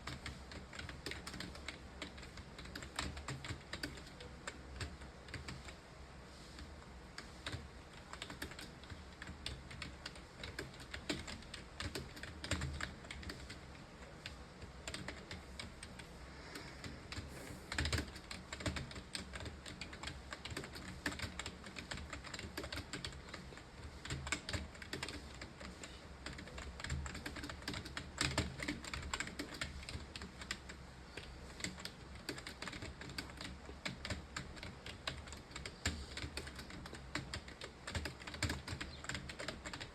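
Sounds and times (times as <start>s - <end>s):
fast typing on keyboard: 0.0s - 5.8s, 7.1s - 39.9s.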